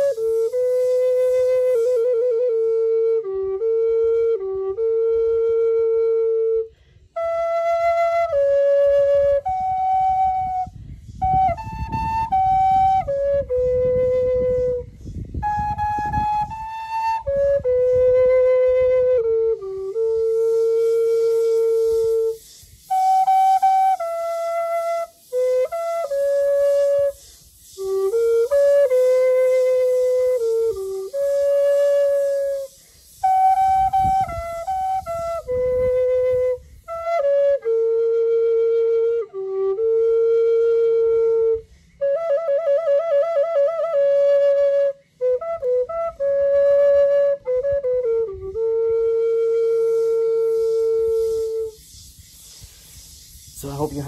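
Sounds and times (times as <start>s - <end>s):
bamboo flute melody: 0.0s - 54.0s.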